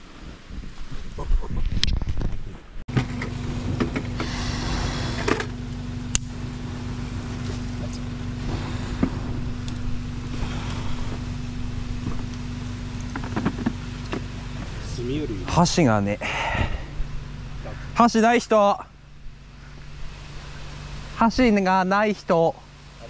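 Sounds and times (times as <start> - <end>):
fire crackling: 0.0 - 23.0
steady low hum: 0.0 - 23.0.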